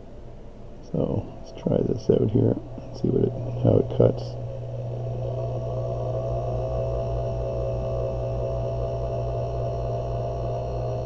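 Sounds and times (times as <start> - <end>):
lathe motor humming with a whine: 0.7 - 11.0.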